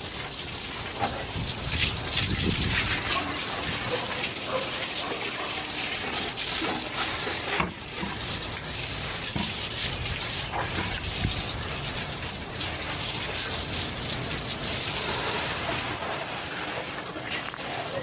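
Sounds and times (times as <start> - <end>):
water splashing on porch floor: 0.0 - 18.0.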